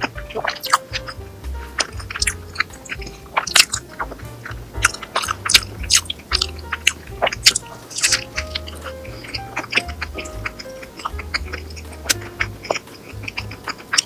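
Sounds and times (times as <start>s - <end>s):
soft background music: 0.0s - 14.0s
person chewing crunchy food: 1.8s - 14.0s.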